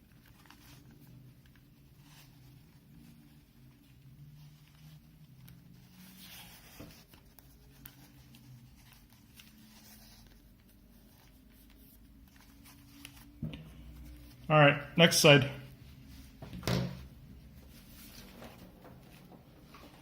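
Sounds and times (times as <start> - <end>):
headphones rustling and scratching: 0.0 - 14.5, 15.7 - 20.0.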